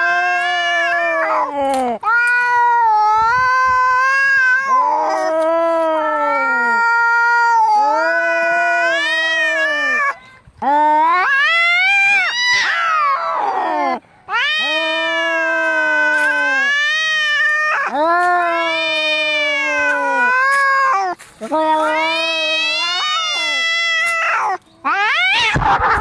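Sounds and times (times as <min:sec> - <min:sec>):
cats yowling in a fight: 0:00.0 - 0:26.0.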